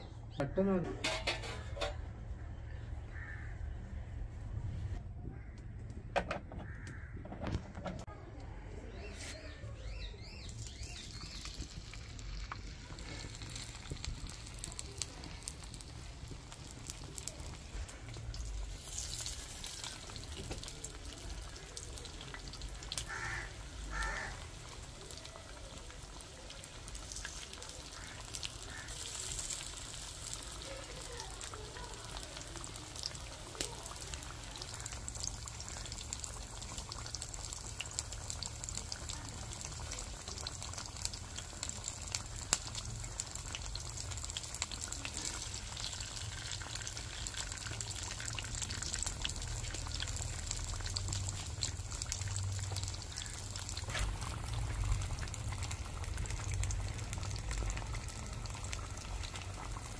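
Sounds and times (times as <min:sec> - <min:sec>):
fish sizzling in hot oil: 0:09.8 - 0:59.9.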